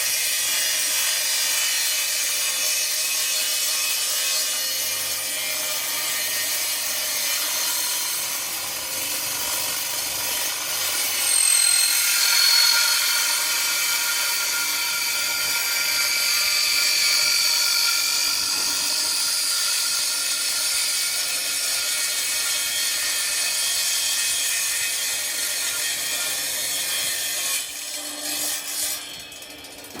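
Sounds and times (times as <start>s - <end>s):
power tool cutting metal: 0.0s - 30.0s.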